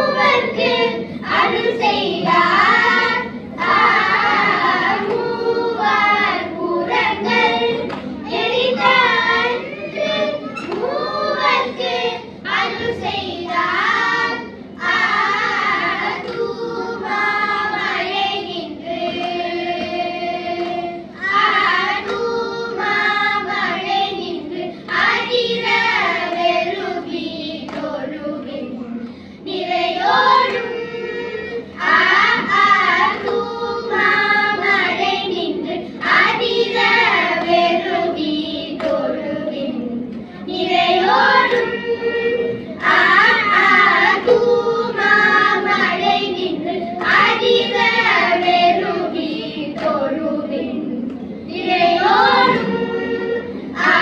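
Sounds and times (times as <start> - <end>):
children singing a hymn: 0.0 - 54.0.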